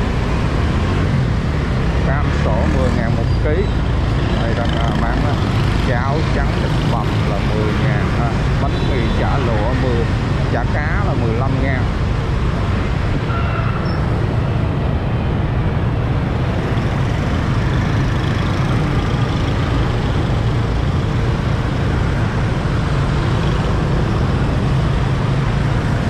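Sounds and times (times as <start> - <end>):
traffic engines: 0.0 - 26.0.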